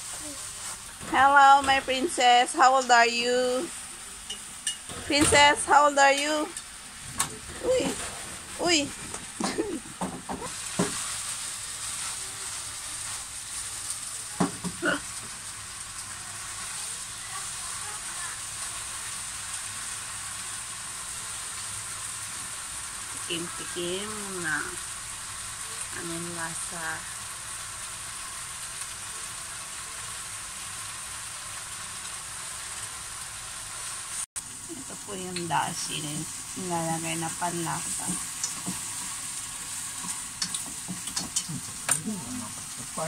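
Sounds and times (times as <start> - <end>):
noodles sizzling in a wok: 0.0 - 43.0.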